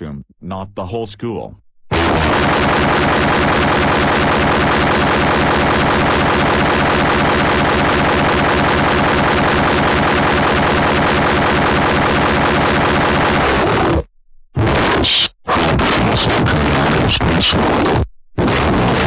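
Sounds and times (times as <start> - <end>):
distorted pulsing rage effect: 1.9 - 19.0.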